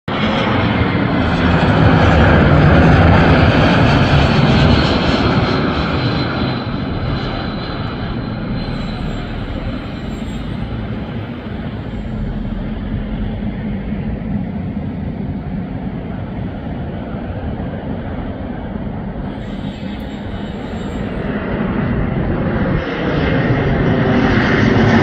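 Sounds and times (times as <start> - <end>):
jet engine roar: 0.1 - 25.0.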